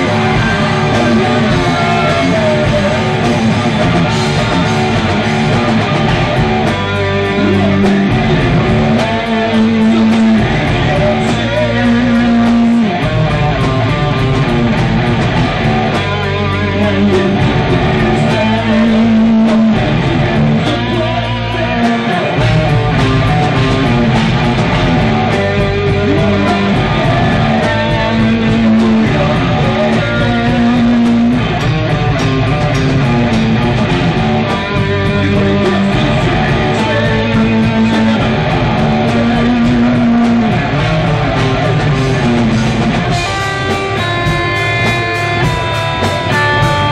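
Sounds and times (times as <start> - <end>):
bass guitar: 0.0 - 46.9
drums: 0.0 - 46.9
electric guitars: 0.0 - 46.9.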